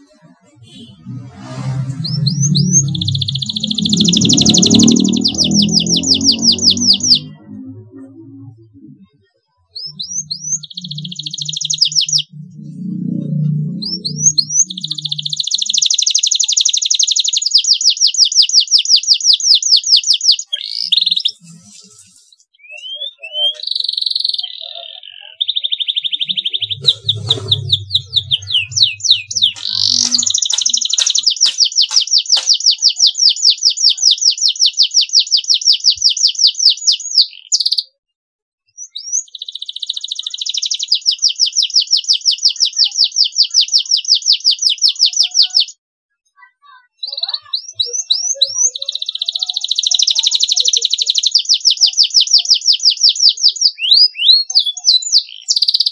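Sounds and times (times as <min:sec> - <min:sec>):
canary singing trills: 0:00.0 - 0:38.0, 0:38.7 - 0:45.8, 0:46.8 - 0:55.9.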